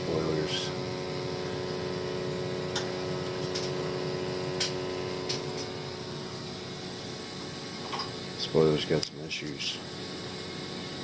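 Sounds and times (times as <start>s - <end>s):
boiler humming: 0.0s - 11.0s.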